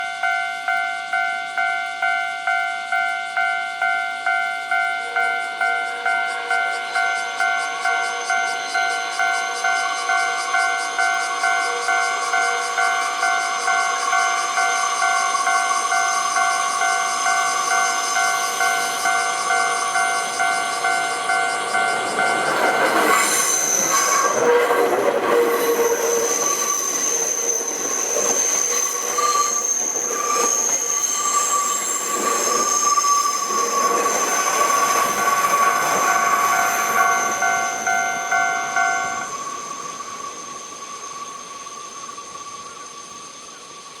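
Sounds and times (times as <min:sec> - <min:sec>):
level-crossing bell ringing: 0:00.0 - 0:41.7
train passing: 0:00.0 - 0:44.0
wheels squealing on rails: 0:00.0 - 0:44.0.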